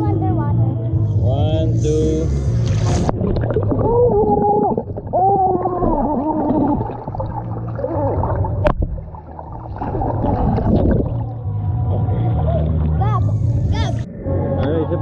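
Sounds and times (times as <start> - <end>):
voices heard through water: 0.0 - 15.0
water gurgling underwater: 2.6 - 15.0.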